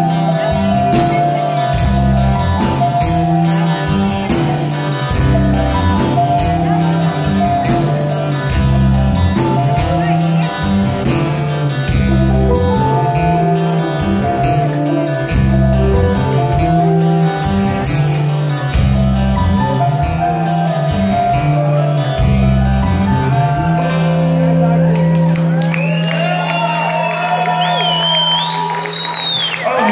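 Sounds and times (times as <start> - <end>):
electric bass: 0.0 - 26.5
keyboard: 0.0 - 27.5
drums: 0.0 - 29.9.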